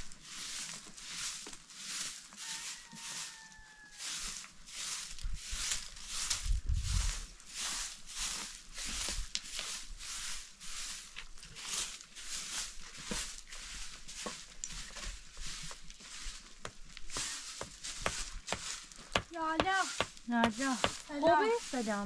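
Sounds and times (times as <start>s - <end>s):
broom sweeping dirt ground: 0.0s - 22.0s.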